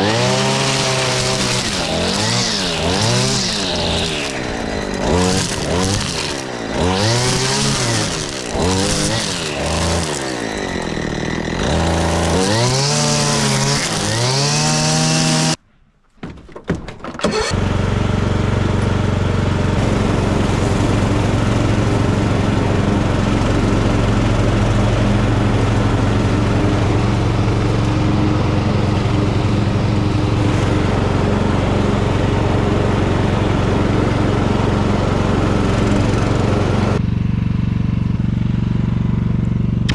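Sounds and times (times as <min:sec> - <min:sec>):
engine revving: 0:00.0 - 0:15.6, 0:17.3 - 0:37.0
tractor mower cutting grass: 0:00.0 - 0:15.6, 0:17.2 - 0:39.9.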